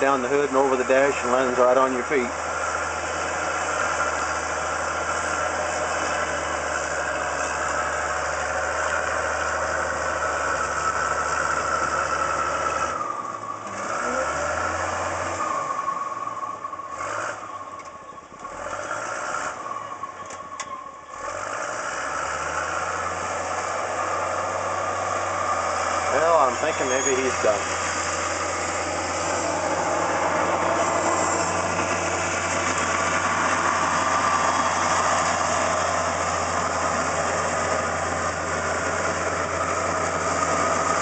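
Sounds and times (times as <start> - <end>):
bulldozer diesel engine under load: 0.0 - 41.0.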